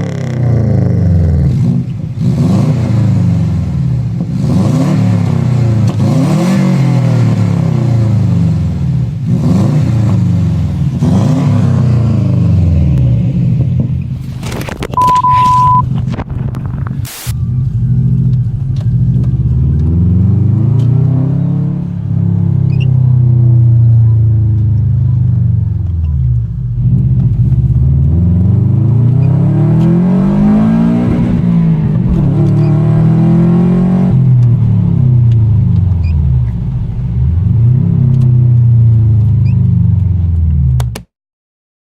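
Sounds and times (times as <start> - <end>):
loud car engine revving: 0.0 - 14.0, 16.5 - 40.9.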